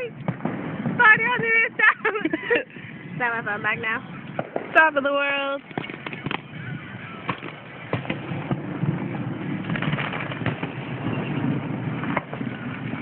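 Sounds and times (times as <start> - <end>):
fireworks popping: 0.0 - 13.0
outdoor rumble: 0.0 - 13.0.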